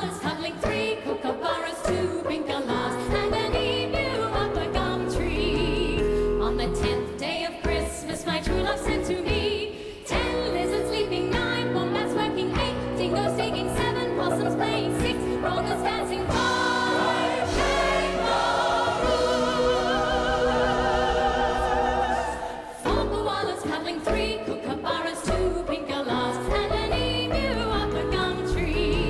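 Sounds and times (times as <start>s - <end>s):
choir singing: 0.0s - 6.0s, 6.6s - 29.0s
woman singing into a microphone: 0.0s - 17.2s, 20.1s - 29.0s
instrumental accompaniment: 0.2s - 29.0s.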